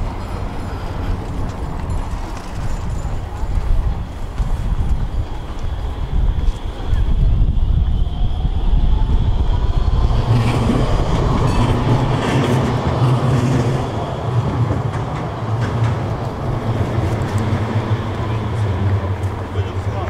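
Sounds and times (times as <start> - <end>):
tram rumble and motor whine: 0.0 - 20.0.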